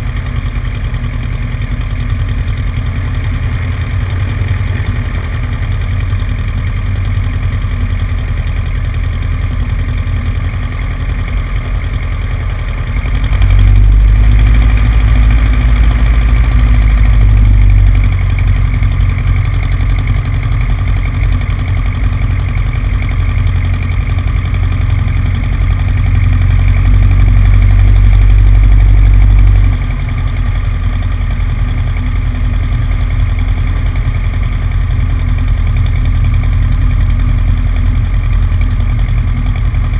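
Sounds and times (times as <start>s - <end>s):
heavy low rumble: 0.0s - 39.9s
small plane piston engine: 0.0s - 39.9s.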